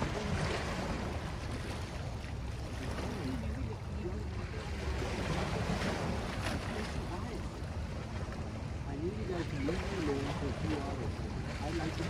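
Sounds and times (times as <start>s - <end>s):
small waves lapping on rocks: 0.0s - 12.0s.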